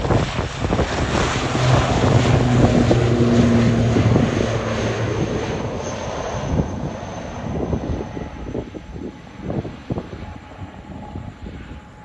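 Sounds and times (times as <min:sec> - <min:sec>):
low hum: 0:00.0 - 0:12.0
turboprop engines and propellers: 0:00.0 - 0:12.0
faint high whine: 0:02.1 - 0:12.0.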